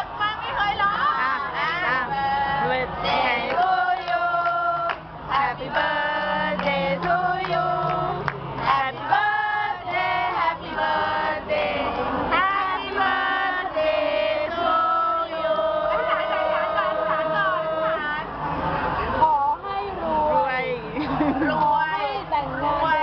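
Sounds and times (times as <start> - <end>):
women singing together: 0.0 - 18.4, 19.2 - 23.0.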